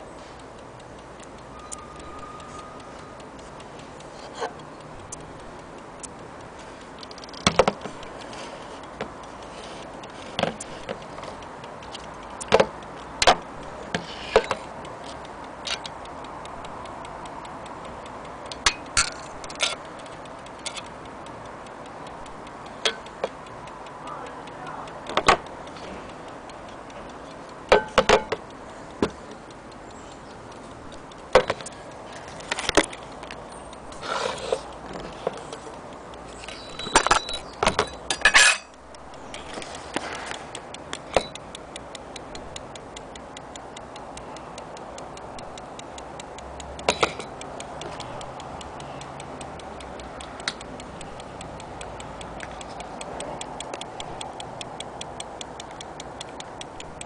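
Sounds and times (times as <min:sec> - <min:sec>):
clock ticking rapidly: 0:00.0 - 0:57.0.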